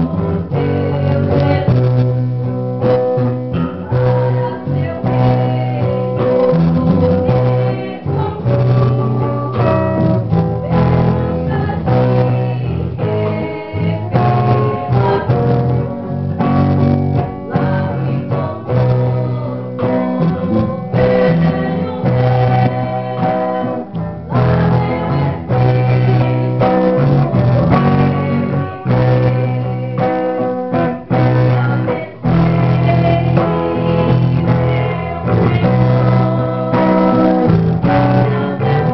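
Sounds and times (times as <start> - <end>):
guitar music with bass: 0.0 - 38.9
person singing: 0.0 - 38.9.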